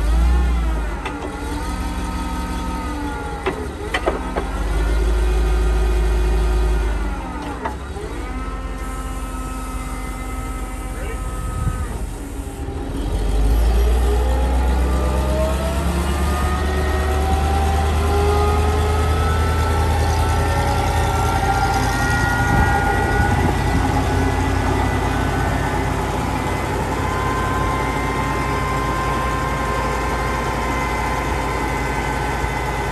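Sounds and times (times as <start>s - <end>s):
forklift engine running: 0.0s - 32.9s
rising engine whine: 0.0s - 32.9s.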